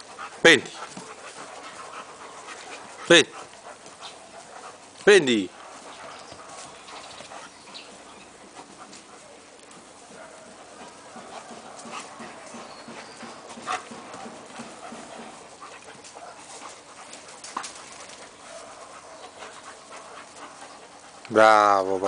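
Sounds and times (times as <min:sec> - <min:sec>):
dogs panting: 0:00.0 - 0:22.0
dogs scuffling: 0:00.0 - 0:22.0.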